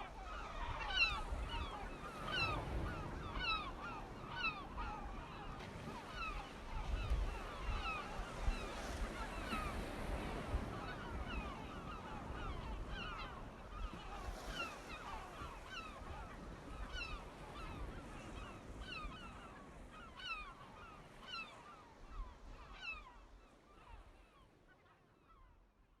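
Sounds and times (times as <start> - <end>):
gulls calling: 0.0 - 23.2.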